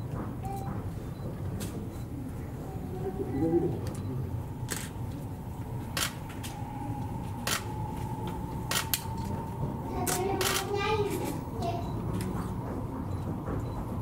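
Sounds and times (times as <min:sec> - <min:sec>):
steady low rumble: 0:01.2 - 0:14.0.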